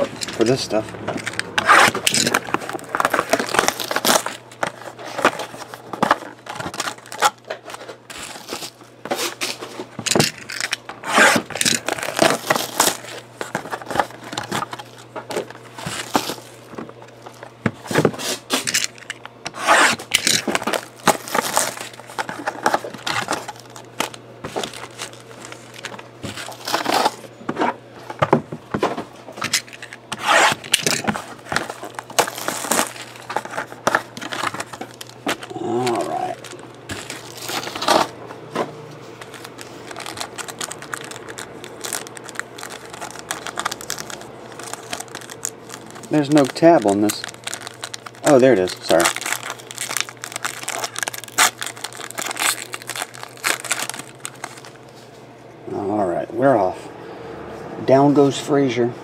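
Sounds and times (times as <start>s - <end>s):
plastic wrap and foil crinkling: 0.0s - 27.7s, 29.3s - 38.2s, 39.0s - 55.2s.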